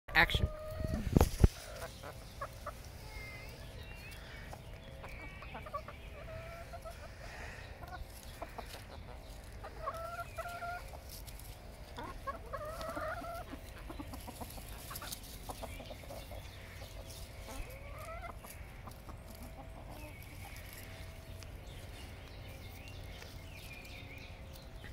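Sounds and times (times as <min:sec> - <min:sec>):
hens clucking: 0:00.2 - 0:24.9.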